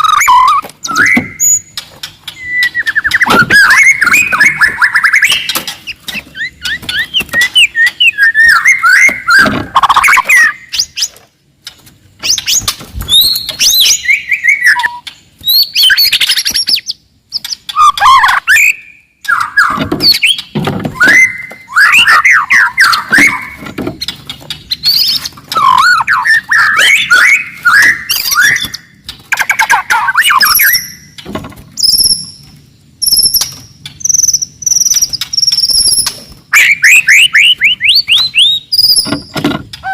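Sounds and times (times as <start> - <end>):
bird singing: 0.0 - 11.3, 12.2 - 39.9.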